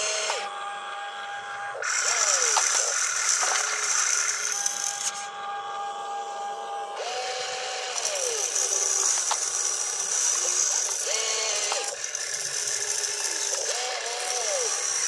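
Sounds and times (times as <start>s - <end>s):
electric motors and gears whining: 0.0s - 15.0s.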